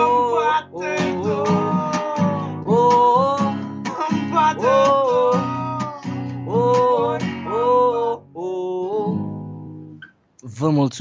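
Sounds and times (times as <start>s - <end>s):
man singing: 0.0s - 9.3s
acoustic guitar strummed: 0.0s - 10.2s.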